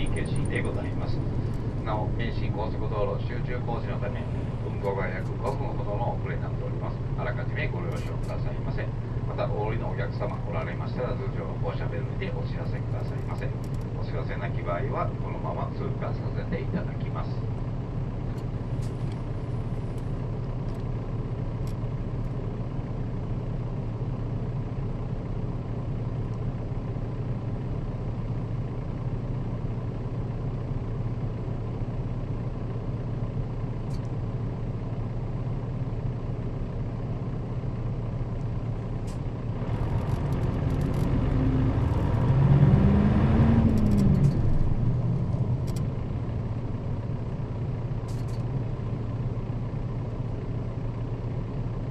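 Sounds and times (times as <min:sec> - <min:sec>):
bus diesel engine humming: 0:00.0 - 0:51.9.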